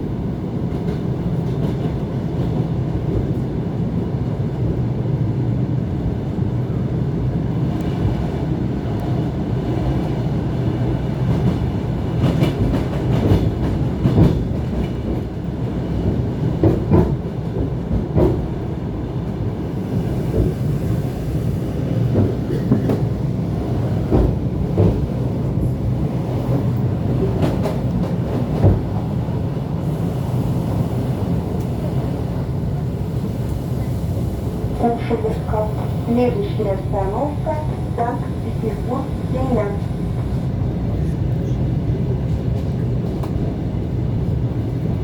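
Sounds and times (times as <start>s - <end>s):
electric train rumbling: 0.0s - 45.0s.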